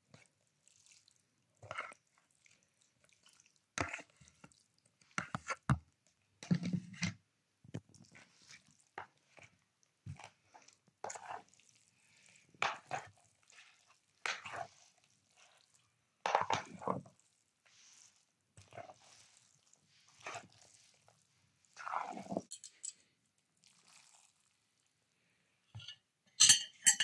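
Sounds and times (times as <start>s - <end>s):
wet food squishing in bowl: 0.1s - 22.5s, 23.6s - 24.9s.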